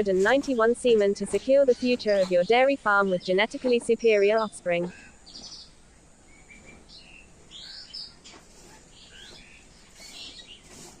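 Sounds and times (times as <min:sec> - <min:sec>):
low background hiss: 0:00.0 - 0:10.6
small birds chirping faintly: 0:00.0 - 0:11.0.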